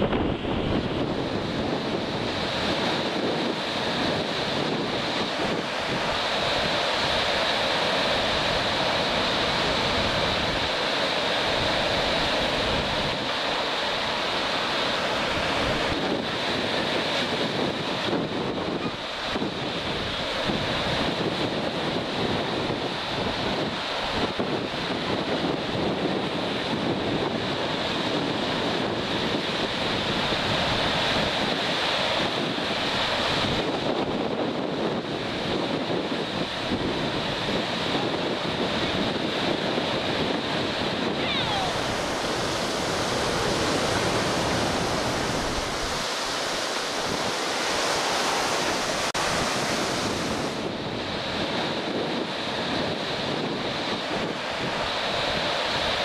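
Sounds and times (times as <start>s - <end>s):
choppy water: 0.0s - 56.0s
wind gusting across microphone: 0.0s - 56.0s.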